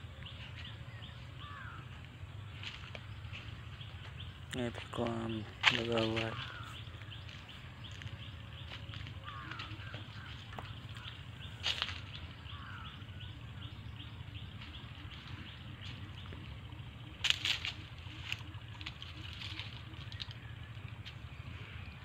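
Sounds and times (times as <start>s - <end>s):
birds chirping: 0.0s - 22.0s
low steady rumble: 0.0s - 22.0s.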